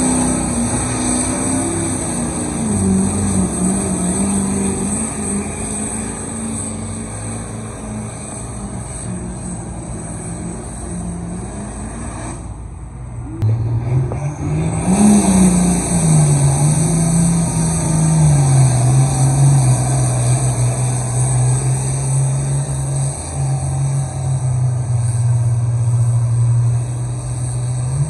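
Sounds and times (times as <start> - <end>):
distant diesel engine: 0.0 - 28.0
tractor engine revving and droning: 0.0 - 28.0.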